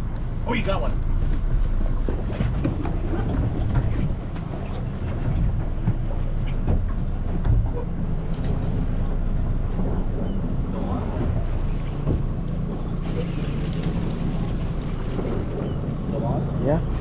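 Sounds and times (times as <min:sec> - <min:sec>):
boat engine rumble: 0:00.0 - 0:17.0
wind buffeting microphone: 0:01.0 - 0:17.0.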